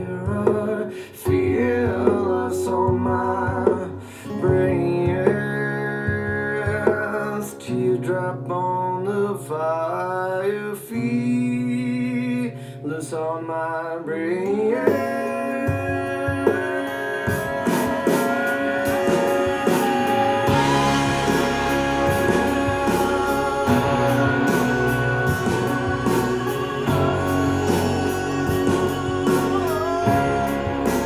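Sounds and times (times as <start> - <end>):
guitar music over loudspeakers: 0.0 - 31.0.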